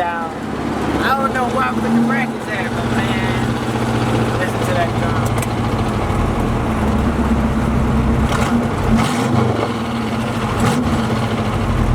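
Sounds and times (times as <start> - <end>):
car engine low note: 0.0 - 11.9.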